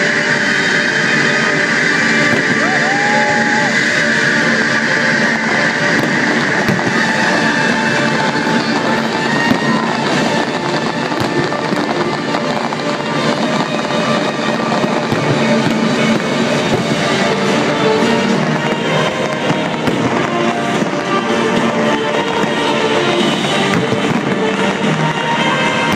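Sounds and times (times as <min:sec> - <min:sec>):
fireworks bursting: 0:00.0 - 0:25.9
music playing: 0:00.0 - 0:25.9.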